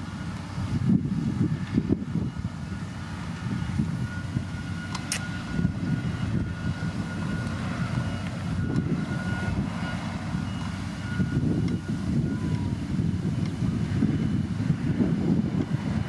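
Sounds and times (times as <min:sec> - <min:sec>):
diesel engine running: 0:00.0 - 0:16.0
faint steady whine: 0:00.0 - 0:16.0.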